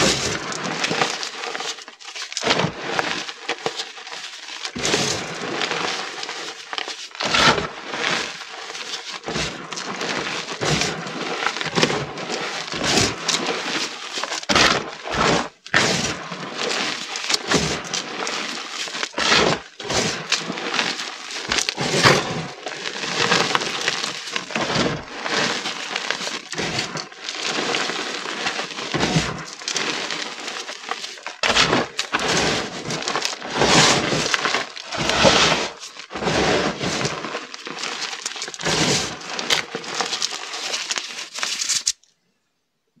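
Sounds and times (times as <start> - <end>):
chalk crunching between hands: 0.0 - 42.0.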